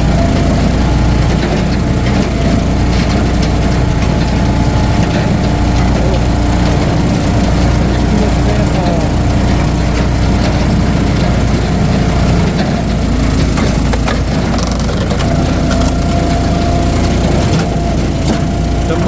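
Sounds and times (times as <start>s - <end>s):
log splitter engine running: 0.0s - 19.0s
wood cracking and splintering: 0.1s - 19.0s.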